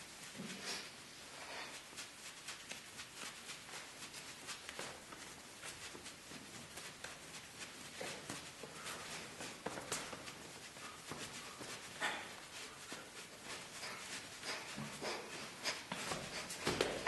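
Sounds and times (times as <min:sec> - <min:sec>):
people scuffling: 0:00.0 - 0:17.0.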